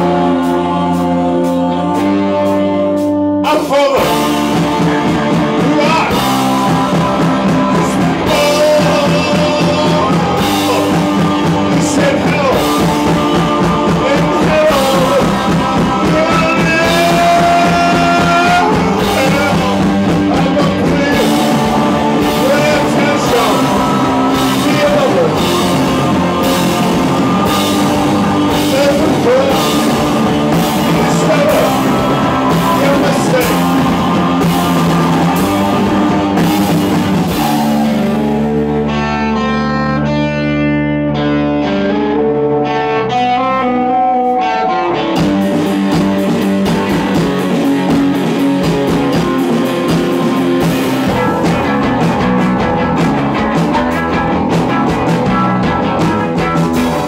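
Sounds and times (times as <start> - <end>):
drum kit beat: 0.0 - 39.2, 45.2 - 57.0
lead vocal singing: 0.0 - 40.2, 42.6 - 57.0
electric guitars: 0.0 - 57.0.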